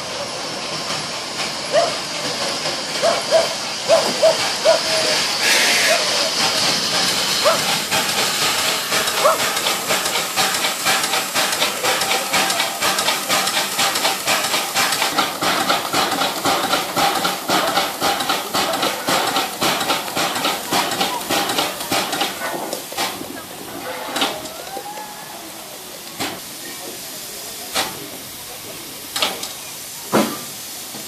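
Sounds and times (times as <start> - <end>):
steam hissing: 0.0 - 31.0
locomotive wheels knocking: 0.7 - 31.0.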